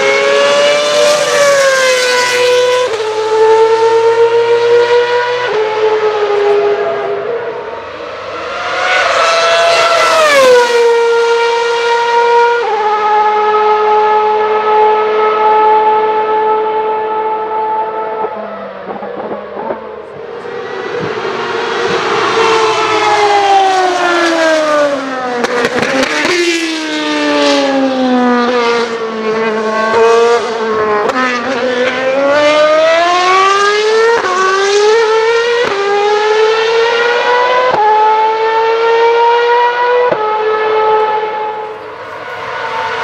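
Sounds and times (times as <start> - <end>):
racing car engine at high revs: 0.0 - 43.0.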